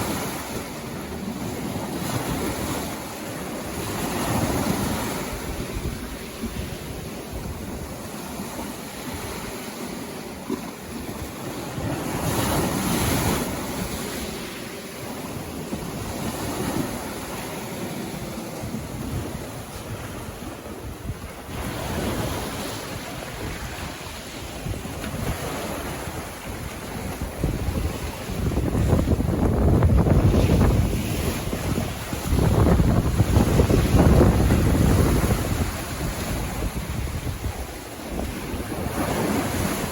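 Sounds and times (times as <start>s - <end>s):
sea waves washing onto beach: 0.0s - 39.9s
wind buffeting microphone: 0.0s - 39.9s.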